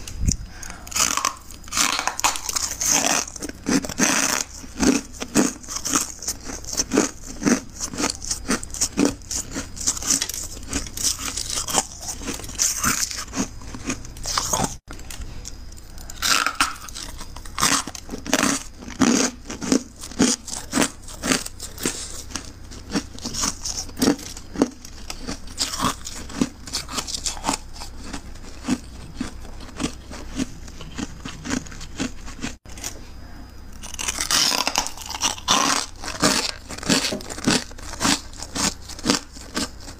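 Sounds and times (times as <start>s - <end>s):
frost and ice crunching: 0.1s - 33.0s, 33.6s - 39.9s.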